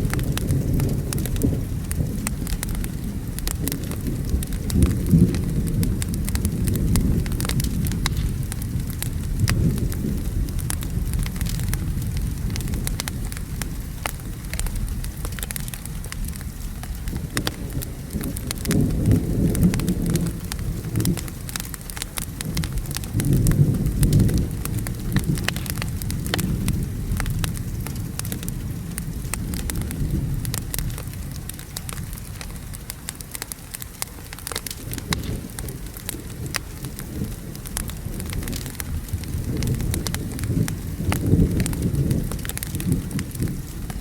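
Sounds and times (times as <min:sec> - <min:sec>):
thunder rolling: 0:00.0 - 0:31.4, 0:34.8 - 0:44.0
steady rain: 0:00.0 - 0:44.0
wood fire crackling and popping: 0:00.0 - 0:44.0.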